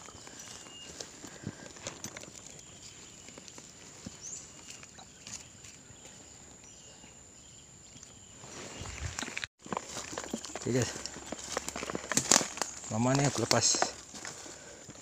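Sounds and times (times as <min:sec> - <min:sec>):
dry leaves and twigs rustling: 0:00.0 - 0:06.6, 0:08.0 - 0:15.0
insects droning: 0:00.0 - 0:15.0.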